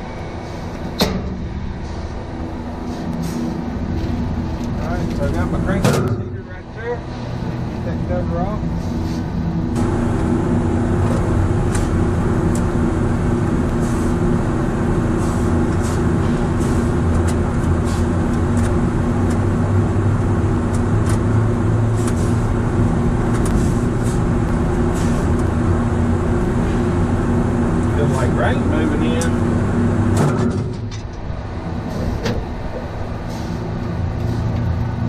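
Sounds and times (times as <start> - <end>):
refrigeration equipment humming: 0.0 - 31.8.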